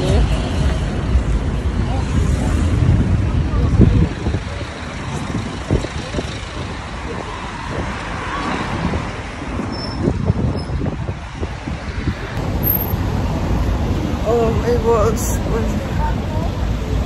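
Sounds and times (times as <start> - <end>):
cars passing and idling: 0.0 - 17.0.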